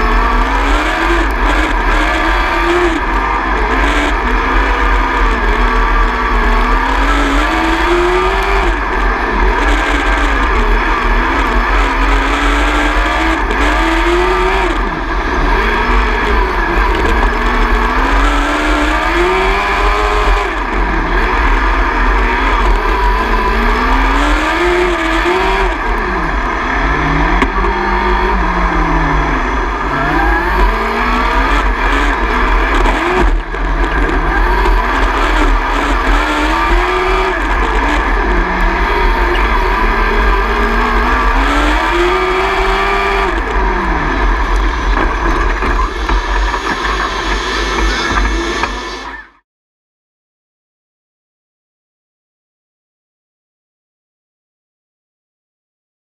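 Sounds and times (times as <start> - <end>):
heavy low rumble: 0.0 - 49.4
racing car engine revving: 0.0 - 49.4.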